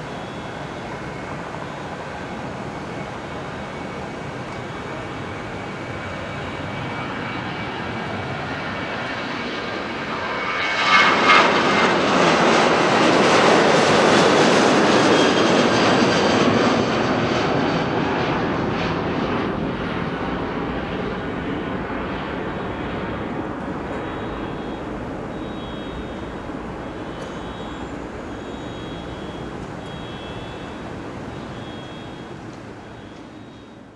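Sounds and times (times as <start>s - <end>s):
jet engine roar overhead: 0.0s - 33.9s.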